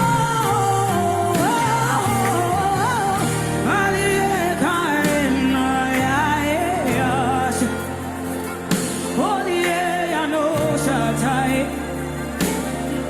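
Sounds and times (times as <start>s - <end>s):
sustained chords and bass: 0.0s - 13.0s.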